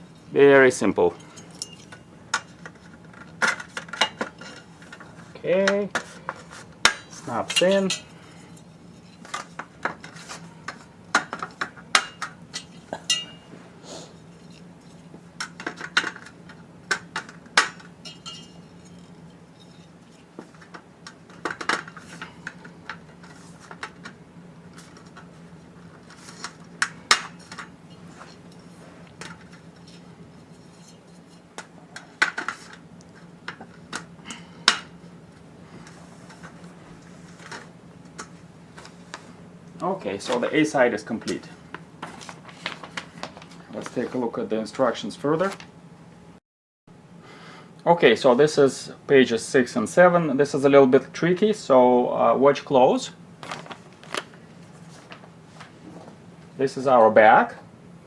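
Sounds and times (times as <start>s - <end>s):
faint steady hum: 0.0s - 46.4s, 47.0s - 58.0s.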